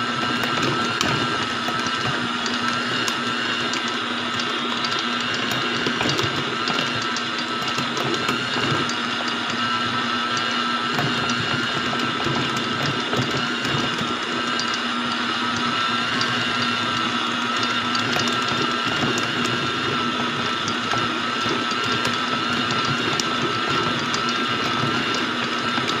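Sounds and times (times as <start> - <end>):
stand mixer motor whine: 0.0 - 26.0.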